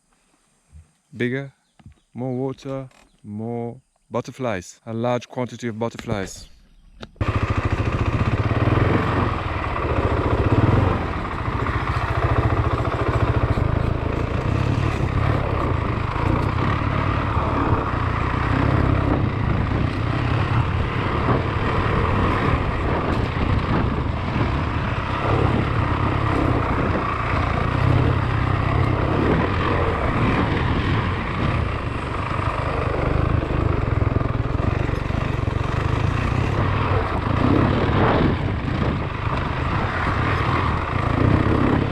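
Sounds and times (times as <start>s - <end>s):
motorcycle engine running: 7.0s - 41.9s.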